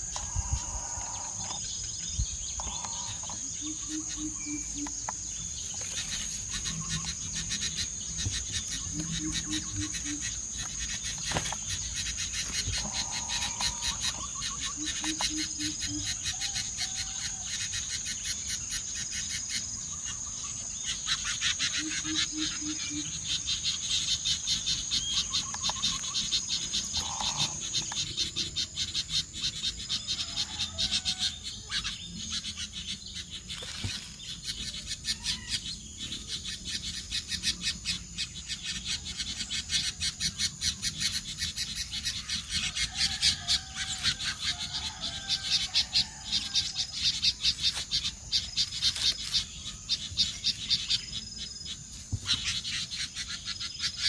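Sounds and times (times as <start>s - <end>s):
faint bird calls: 0.0s - 54.0s
insects buzzing and trilling: 0.0s - 54.0s.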